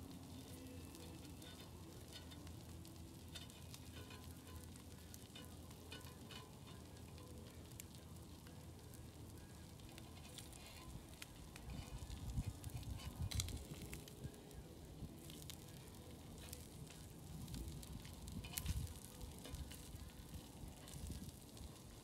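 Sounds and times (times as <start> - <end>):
meat sizzling on griddle: 0.0 - 22.0.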